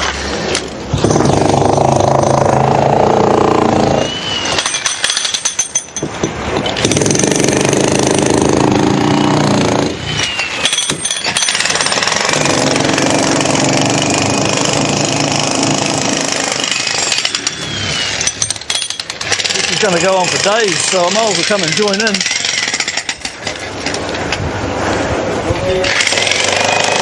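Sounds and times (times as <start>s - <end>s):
jackhammer breaking concrete: 0.9s - 3.6s, 4.5s - 23.7s, 25.8s - 27.0s.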